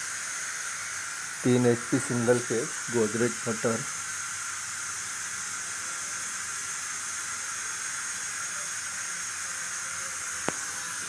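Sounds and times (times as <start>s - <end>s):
air compressor hissing: 0.0s - 11.0s
faint high whine: 0.0s - 11.0s.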